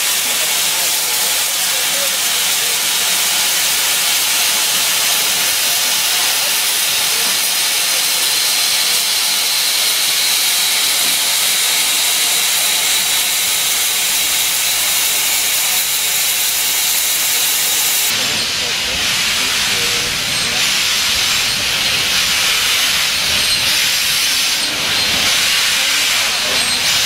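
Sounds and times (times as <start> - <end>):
steam locomotive hissing: 0.0 - 27.0.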